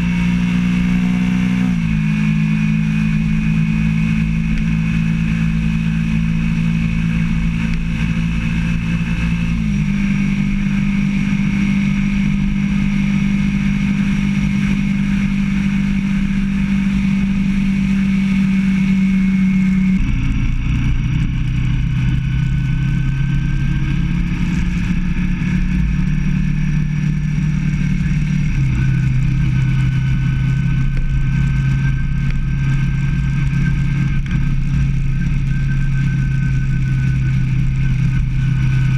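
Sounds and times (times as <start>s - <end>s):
motorcycle engine cruising: 0.0s - 38.9s
wind and road rumble: 0.0s - 38.9s.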